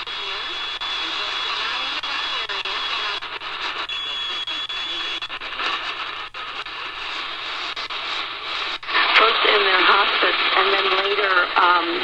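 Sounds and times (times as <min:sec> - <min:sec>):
faint radio station: 0:00.0 - 0:12.0
radio static hiss: 0:00.0 - 0:12.0
sharp radio crackles: 0:00.0 - 0:12.0.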